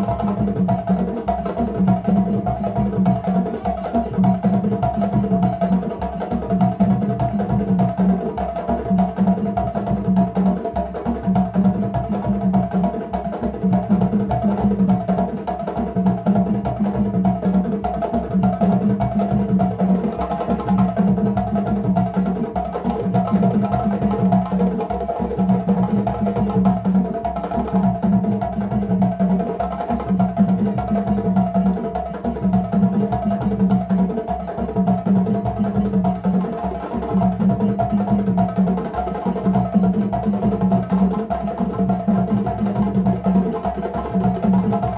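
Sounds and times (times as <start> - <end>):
djembe hand drums: 0.0 - 44.9.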